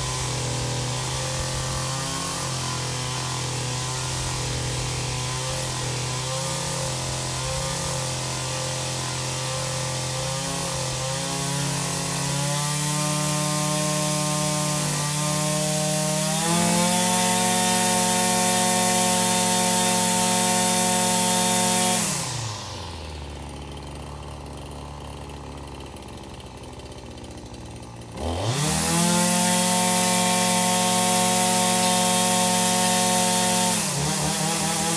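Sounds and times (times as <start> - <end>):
small two-stroke engine revving: 0.0 - 34.9.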